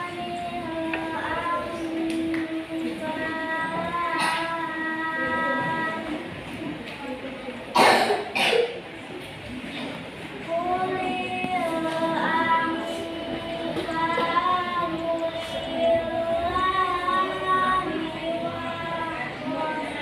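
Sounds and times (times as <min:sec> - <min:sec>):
girl reciting melodically: 0:00.0 - 0:08.5, 0:10.1 - 0:20.0.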